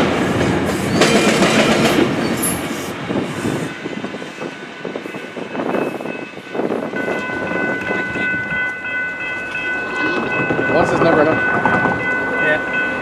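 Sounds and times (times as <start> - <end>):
train rolling past: 0.0 - 13.0.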